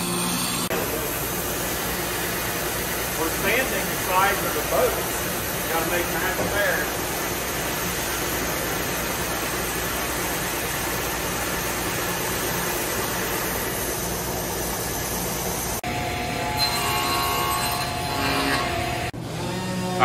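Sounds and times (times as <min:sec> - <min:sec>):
belt sander running: 0:00.0 - 0:16.5
machine hum with steady tones: 0:00.0 - 0:20.0.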